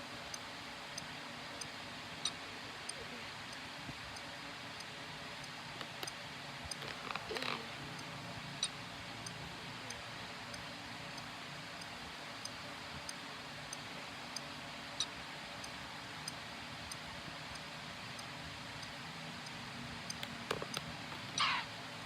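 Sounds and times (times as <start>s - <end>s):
steady hiss: 0.0s - 22.0s
light ticking: 0.2s - 21.5s.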